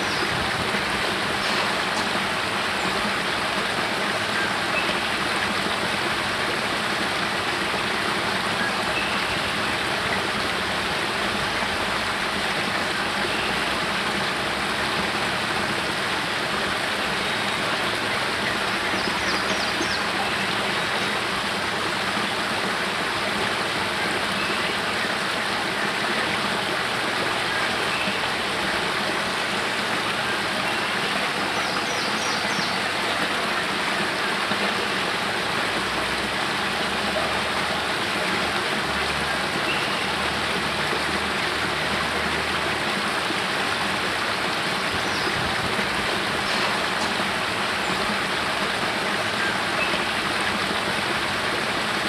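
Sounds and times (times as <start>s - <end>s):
water cascading over rocks: 0.0s - 52.0s.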